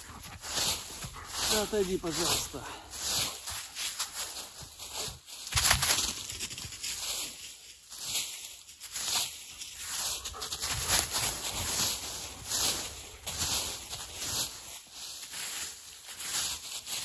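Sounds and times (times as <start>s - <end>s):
dry leaves rustling and scraping: 0.0s - 17.0s.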